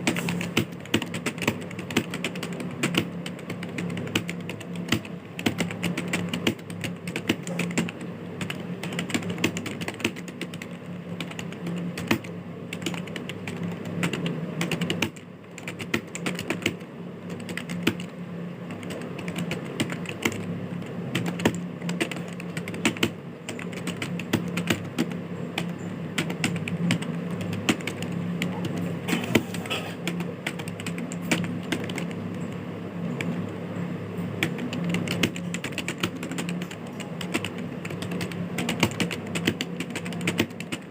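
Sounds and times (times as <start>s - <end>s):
keyboard typing: 0.0s - 33.6s, 34.2s - 40.9s.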